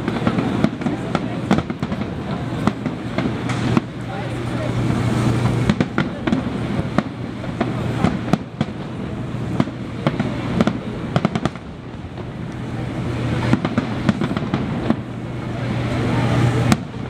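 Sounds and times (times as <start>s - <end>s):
continuous rumble: 0.0s - 17.0s
firework shells bursting: 0.0s - 17.0s.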